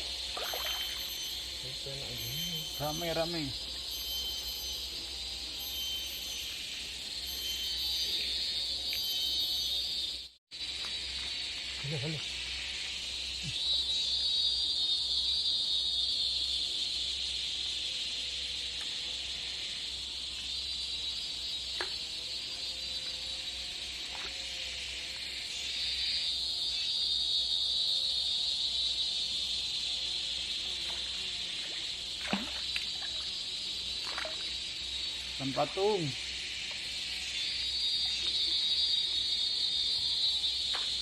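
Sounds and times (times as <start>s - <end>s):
buzzing chorus of insects: 0.0s - 41.0s.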